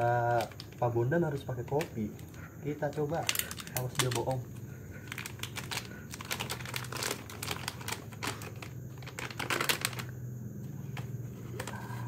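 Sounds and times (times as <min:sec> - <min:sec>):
plastic foil sachets crinkling: 0:00.0 - 0:10.1.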